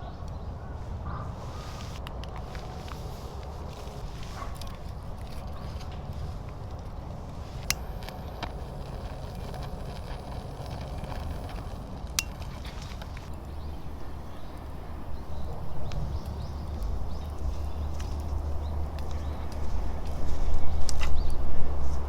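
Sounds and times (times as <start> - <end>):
fire rumbling: 0.8 - 22.0
wood crackling pops: 4.0 - 22.0.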